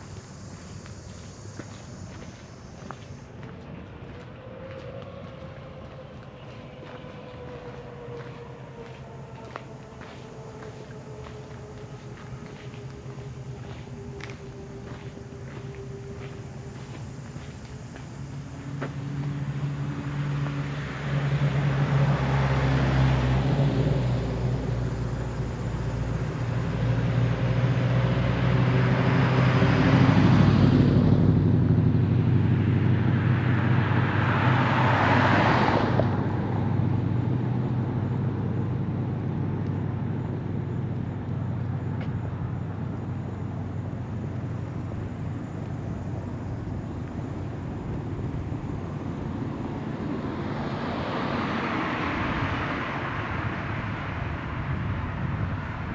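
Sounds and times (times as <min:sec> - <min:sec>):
low engine hum: 0:00.0 - 0:55.9
vehicles passing: 0:00.0 - 0:55.9.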